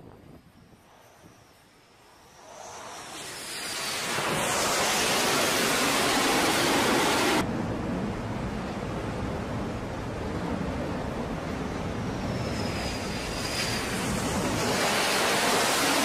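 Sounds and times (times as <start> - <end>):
high whine: 0.0 - 16.0
jet engine roar: 0.0 - 16.0
wind and sea rushing: 0.0 - 16.0.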